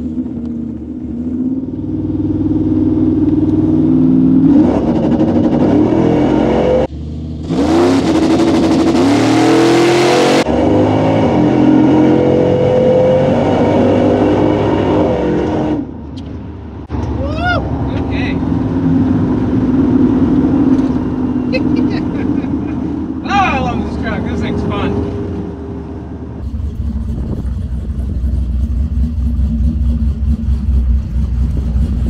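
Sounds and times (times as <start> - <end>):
truck engine accelerating: 0.0 - 32.0.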